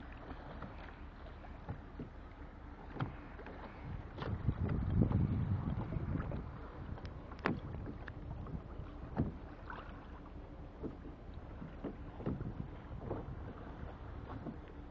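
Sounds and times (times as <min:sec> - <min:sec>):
steady low rumble: 0:00.0 - 0:14.9
water slapping against kayak hull: 0:00.0 - 0:14.9.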